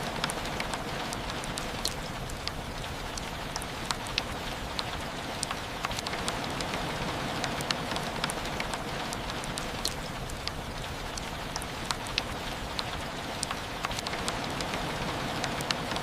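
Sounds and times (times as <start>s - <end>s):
raindrops ticking: 0.0s - 16.0s
steady rain hiss: 0.0s - 16.0s.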